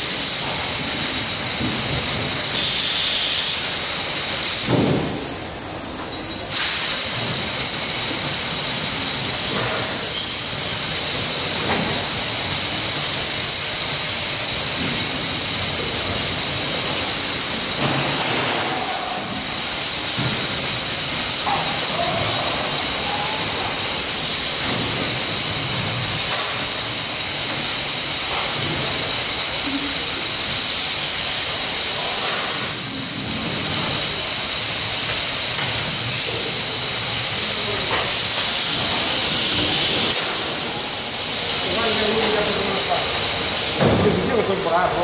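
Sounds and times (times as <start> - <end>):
wrapping machine hissing: 0.0 - 45.0.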